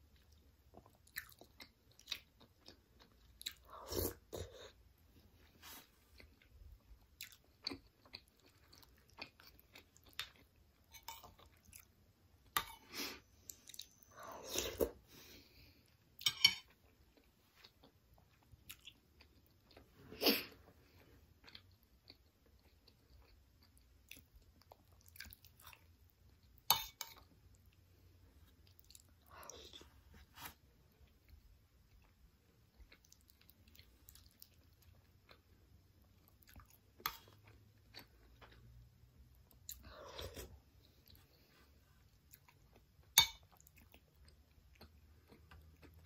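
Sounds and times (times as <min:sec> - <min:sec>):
person chewing with wet smacks: 0:00.0 - 0:05.3, 0:06.0 - 0:14.2, 0:15.6 - 0:19.9, 0:20.9 - 0:30.2, 0:30.9 - 0:46.0.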